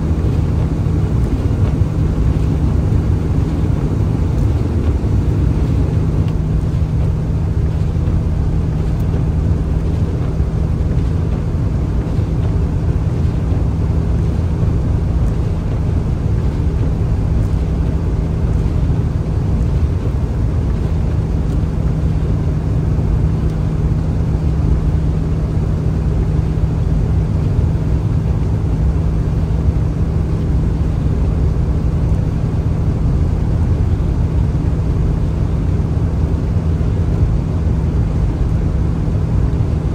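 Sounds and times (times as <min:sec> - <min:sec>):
vehicle driving: 0:00.0 - 0:39.9.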